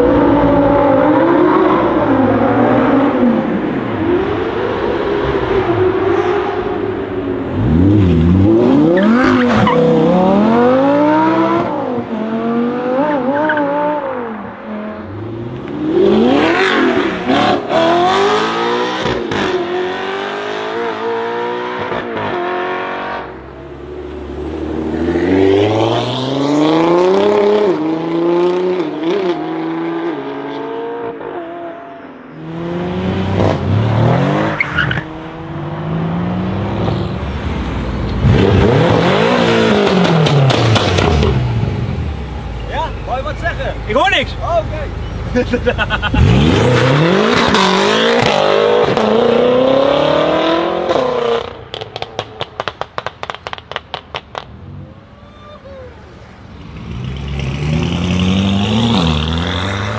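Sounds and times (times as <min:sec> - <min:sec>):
sports car engines revving: 0:00.0 - 0:59.9.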